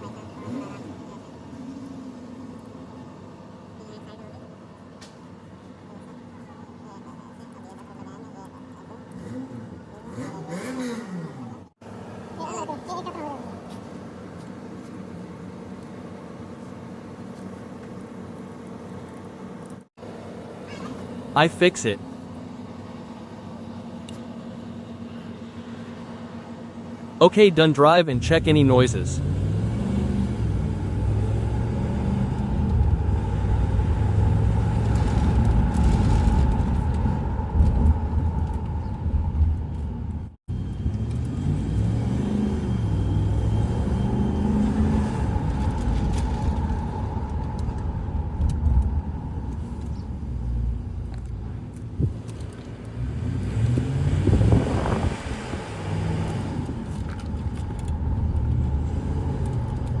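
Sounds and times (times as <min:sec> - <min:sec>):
car engine: 0:00.0 - 1:00.0
road rumble: 0:00.0 - 1:00.0.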